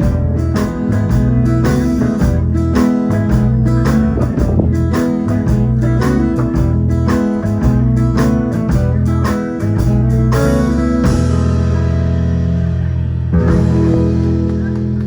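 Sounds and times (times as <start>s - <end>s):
live band playing: 0.0s - 15.0s
strong bass notes: 0.0s - 15.0s.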